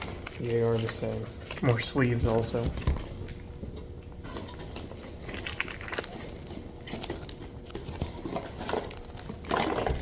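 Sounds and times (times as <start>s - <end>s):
soft rustling of packaging: 0.0s - 10.0s.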